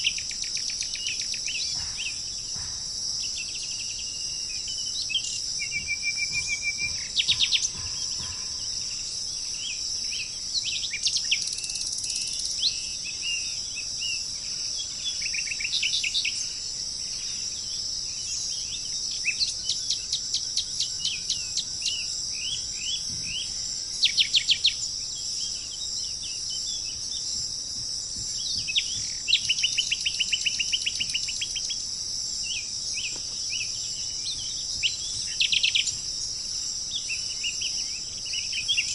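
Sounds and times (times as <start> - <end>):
birds calling and trilling: 0.0 - 38.9
high-pitched insect drone: 0.0 - 38.9.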